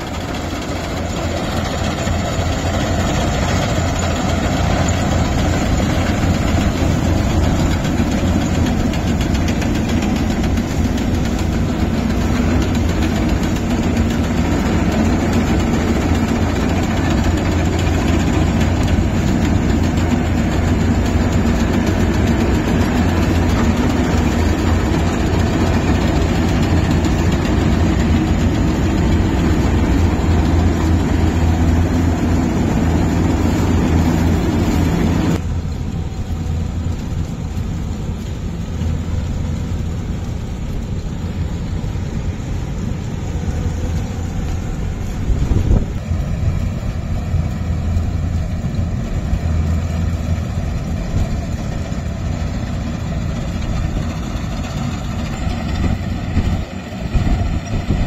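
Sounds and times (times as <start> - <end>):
combine harvester running: 0.0 - 58.0
distant low engine hum: 0.0 - 58.0.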